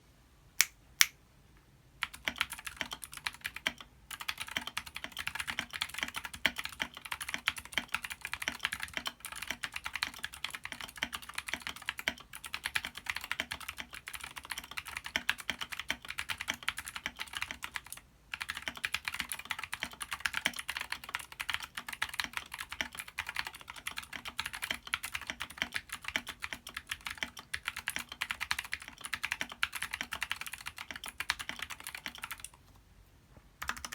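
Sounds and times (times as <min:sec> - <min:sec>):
fast mechanical keyboard typing: 0:02.0 - 0:32.6, 0:33.6 - 0:33.9.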